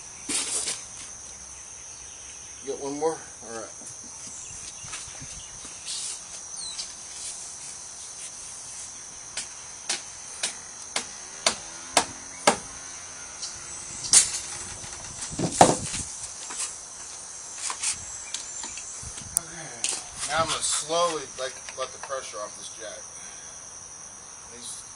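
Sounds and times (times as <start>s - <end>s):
crickets chirring: 0.0s - 24.9s.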